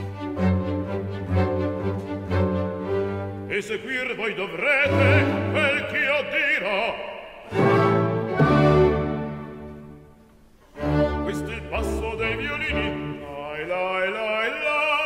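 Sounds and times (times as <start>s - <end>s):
orchestra playing classical music: 0.0s - 15.0s.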